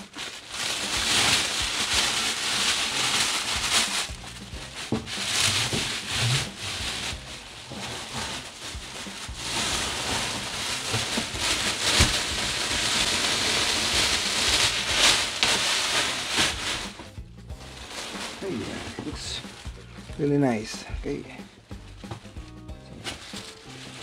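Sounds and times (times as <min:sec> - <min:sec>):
plastic bag crinkling: 0:00.0 - 0:22.3, 0:22.9 - 0:24.0.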